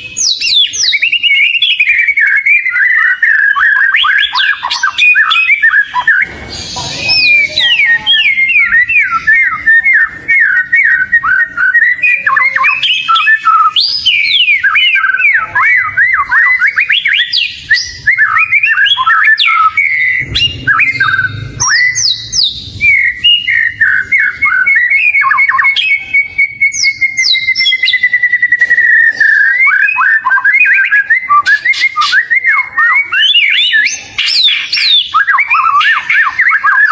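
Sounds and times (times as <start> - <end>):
bird singing whistled notes: 0.0 - 36.9
bird trill: 0.0 - 36.9.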